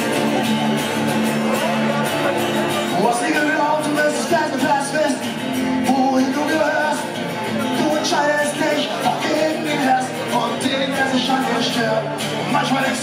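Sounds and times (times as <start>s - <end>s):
acoustic guitars playing: 0.0s - 13.0s.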